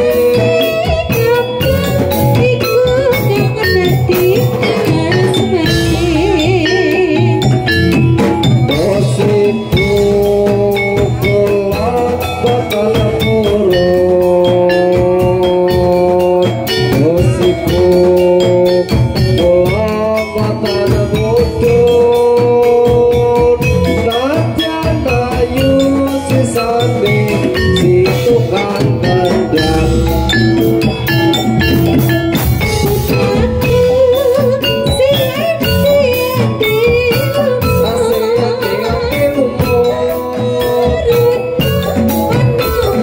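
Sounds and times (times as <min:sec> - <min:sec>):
drum strokes: 0:00.0 - 0:43.0
metallophone notes: 0:00.0 - 0:43.0
wavering sung melody: 0:00.0 - 0:43.0.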